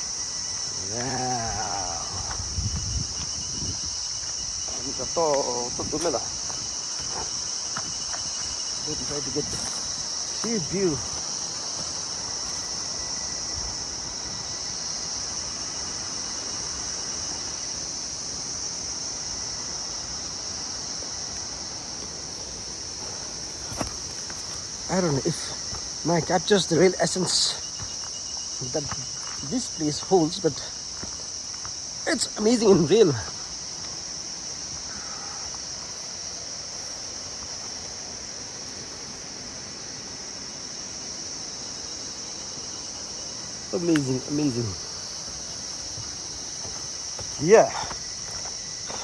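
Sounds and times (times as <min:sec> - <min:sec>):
high-pitched insect chorus: 0:00.0 - 0:49.0
steady rushing hiss: 0:00.0 - 0:49.0.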